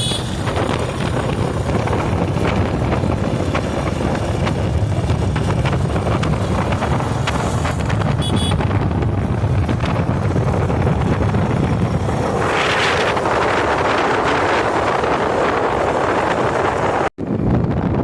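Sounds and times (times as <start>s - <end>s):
motorcycle rumble: 0.0s - 18.0s
wind buffeting microphone: 0.0s - 18.0s.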